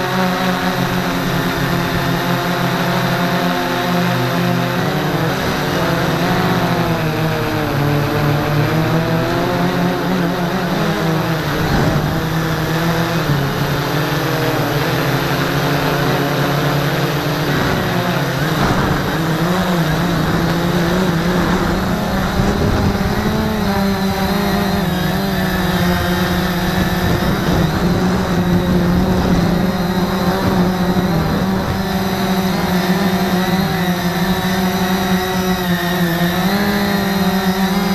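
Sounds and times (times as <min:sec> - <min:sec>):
drone motors and propellers humming: 0:00.0 - 0:37.9.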